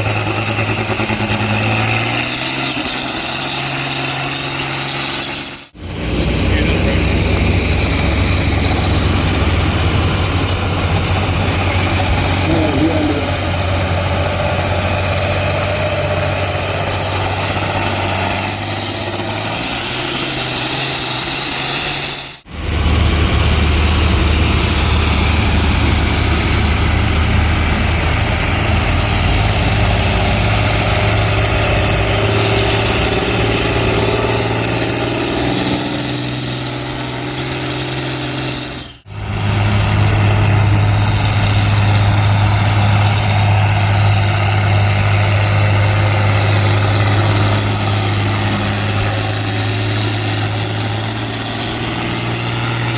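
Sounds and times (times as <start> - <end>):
high whine climbing in pitch: 0.0 - 52.9
tractor engine running under load: 0.0 - 52.9.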